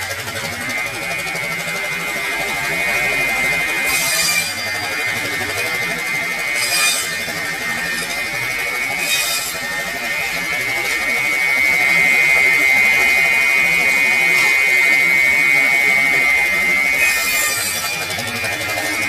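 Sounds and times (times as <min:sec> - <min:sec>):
circular saw blade whining: 0:00.0 - 0:19.0
saw rasping through wood: 0:00.0 - 0:19.0.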